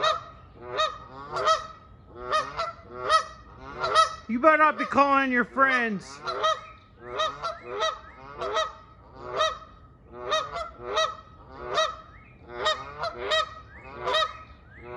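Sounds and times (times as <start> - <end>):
geese honking: 0.0 - 14.9.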